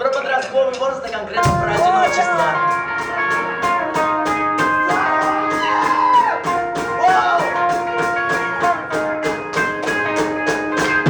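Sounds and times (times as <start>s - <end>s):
ticking beat: 0.0s - 11.0s
electric guitar notes: 1.4s - 11.0s.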